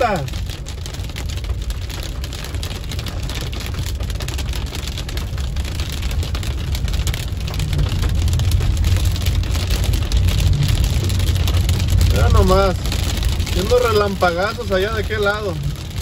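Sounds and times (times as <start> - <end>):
car and tyres rumbling on wet road: 0.0 - 16.0
heavy rain on car windshield: 0.0 - 16.0.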